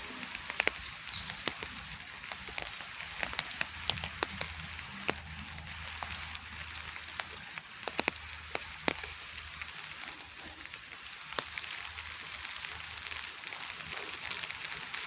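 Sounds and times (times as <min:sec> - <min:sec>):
close water drips: 0:00.0 - 0:15.0
rain hissing: 0:00.0 - 0:15.0.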